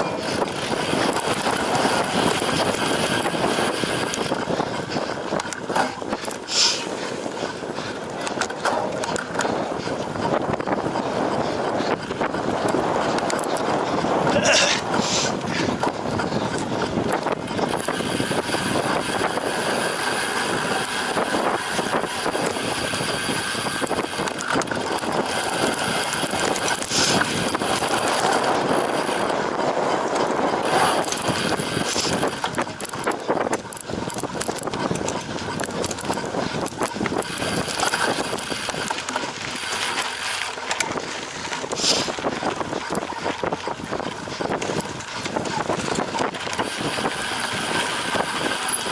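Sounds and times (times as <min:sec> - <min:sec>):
bike tyres and drivetrain rattling: 0:00.0 - 0:48.9.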